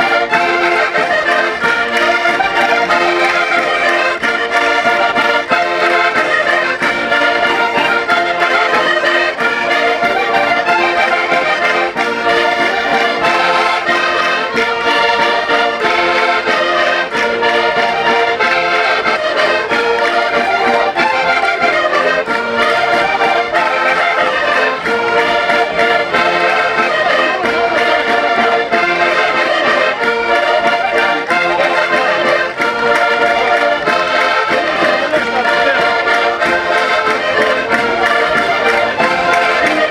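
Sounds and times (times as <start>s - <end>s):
concertinas playing folk dance: 0.0s - 39.9s.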